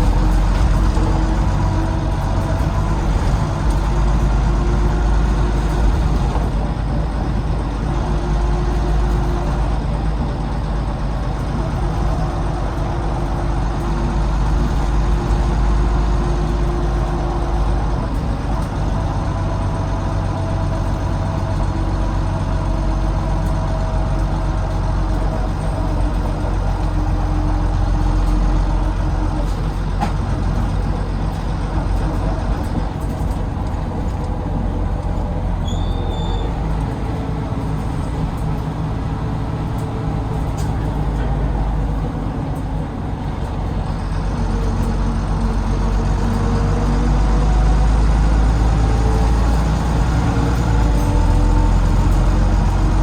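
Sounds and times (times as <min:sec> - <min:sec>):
bus diesel engine rumble: 0:00.0 - 0:53.0.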